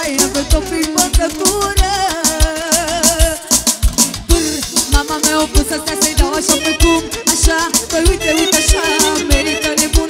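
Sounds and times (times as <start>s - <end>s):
live band ornamented melody: 0.0s - 10.0s.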